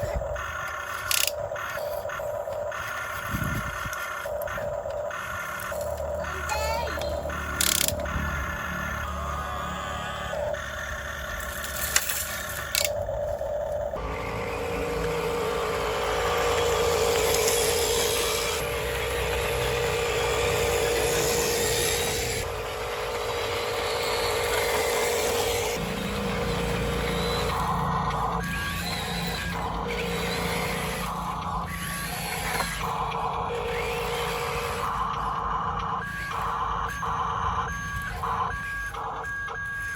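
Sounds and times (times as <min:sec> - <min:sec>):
toy motor and gears whining: 0:00.0 - 0:39.9.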